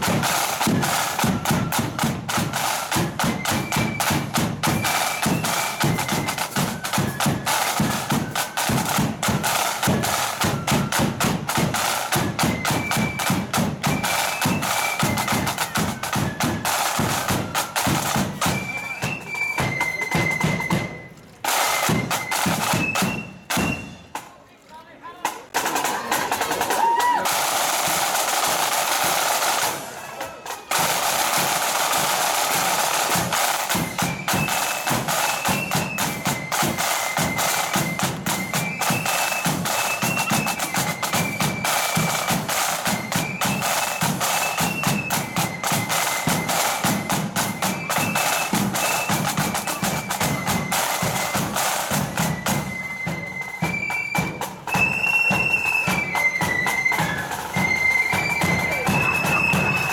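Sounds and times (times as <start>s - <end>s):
flutes playing high melody: 0.0s - 24.2s, 26.6s - 59.9s
snare drums marching beat: 0.0s - 24.3s, 25.2s - 59.9s.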